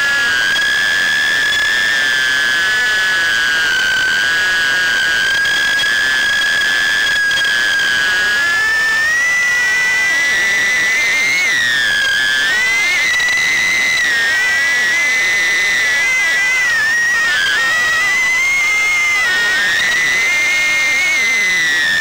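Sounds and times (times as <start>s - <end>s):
small drone motors whining: 0.0s - 22.0s.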